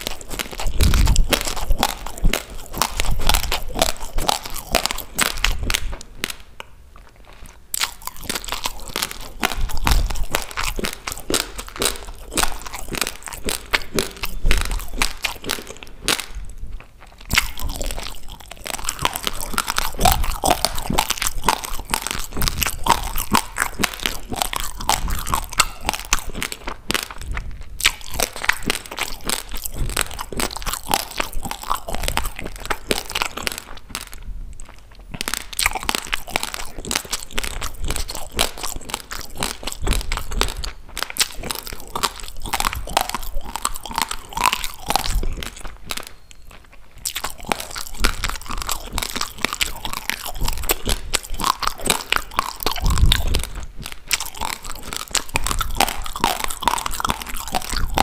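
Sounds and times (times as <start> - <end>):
crunching raw rice grains: 0.0 - 58.0.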